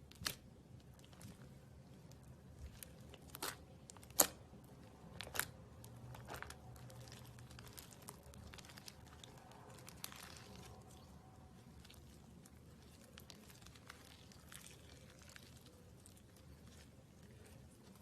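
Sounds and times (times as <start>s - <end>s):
crinkling handling noise: 0.0s - 18.0s.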